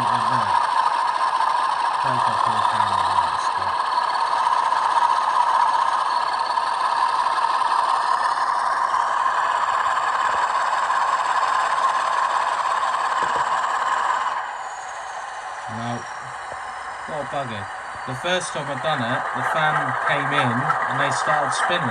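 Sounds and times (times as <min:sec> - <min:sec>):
diesel engine from small speaker: 0:00.0 - 0:21.9.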